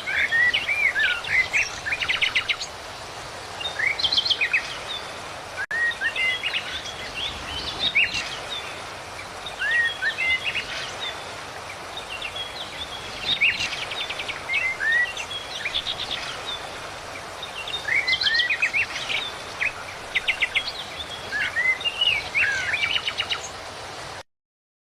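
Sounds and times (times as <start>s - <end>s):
birds chirping and trilling: 0.0s - 23.6s
steady outdoor hiss: 0.0s - 24.2s.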